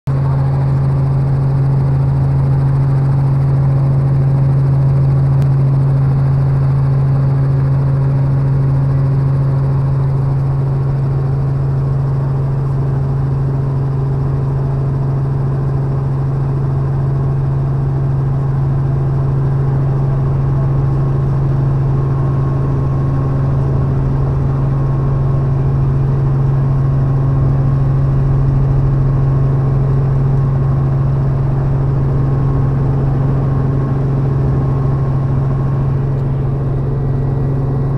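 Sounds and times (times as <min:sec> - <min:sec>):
helicopter engine and rotor drone: 0:00.1 - 0:37.9.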